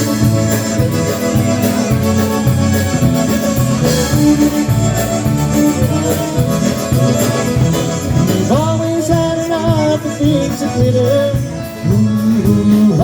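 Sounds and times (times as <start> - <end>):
live band playing polka-style music: 0.0 - 13.0.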